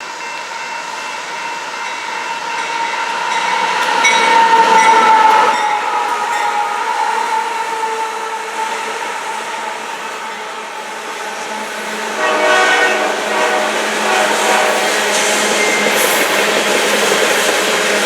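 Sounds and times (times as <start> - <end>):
train rolling past: 0.0 - 18.0.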